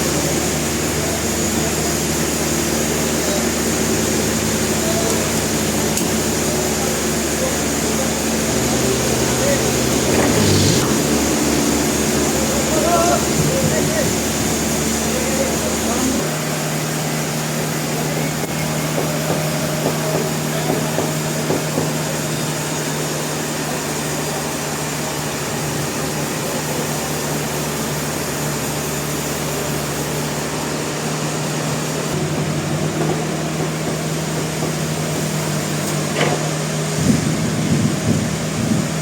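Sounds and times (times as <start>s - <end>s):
sawmill machinery running: 0.0s - 39.0s.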